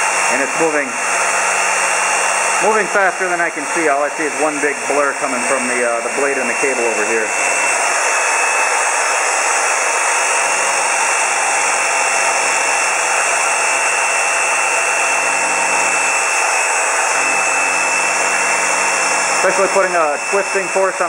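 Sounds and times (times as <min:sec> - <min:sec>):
scroll saw running: 0:00.0 - 0:21.0.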